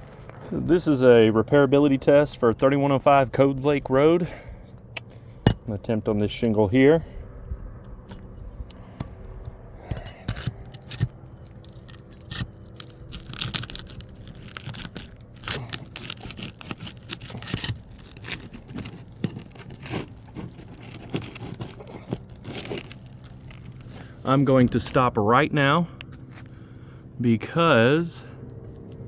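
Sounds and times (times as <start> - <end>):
roof shingle scraping and tearing: 1.4 - 25.3.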